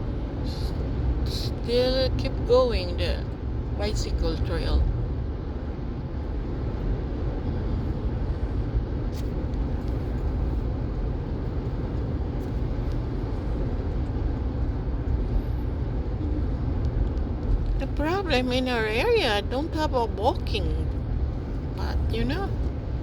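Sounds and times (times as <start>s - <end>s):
car engine rumble inside cabin: 0.0s - 23.0s.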